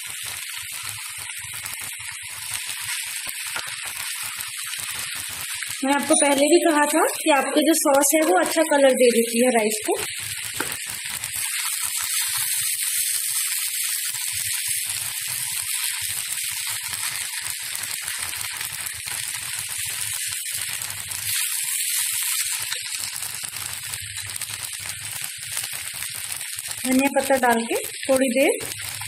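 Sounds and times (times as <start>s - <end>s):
rice sizzling in a frying pan: 0.0s - 29.0s.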